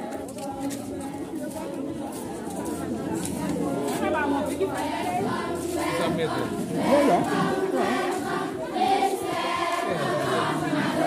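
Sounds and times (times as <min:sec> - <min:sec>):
crowd singing or chanting: 0:00.0 - 0:11.0.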